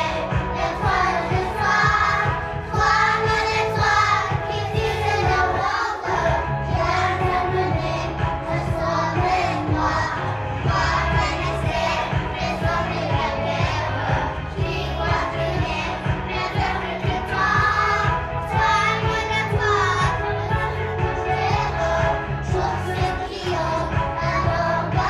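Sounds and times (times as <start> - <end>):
children singing together: 0.0 - 25.0
music with steady beat: 0.0 - 25.0.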